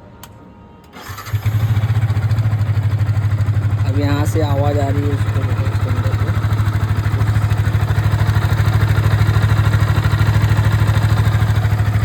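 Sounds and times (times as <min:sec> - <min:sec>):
motorcycle engine idling: 0:01.0 - 0:12.0.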